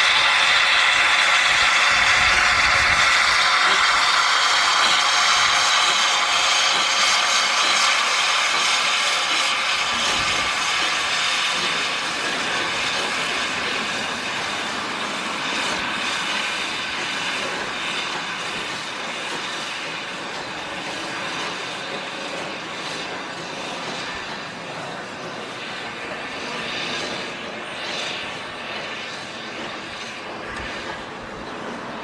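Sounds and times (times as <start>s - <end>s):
steam train rolling on rails: 0.0s - 32.0s.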